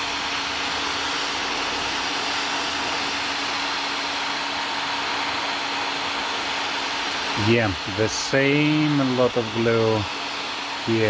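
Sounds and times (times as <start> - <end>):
heat gun blowing hot air: 0.0 - 11.0
motor hum: 0.0 - 11.0.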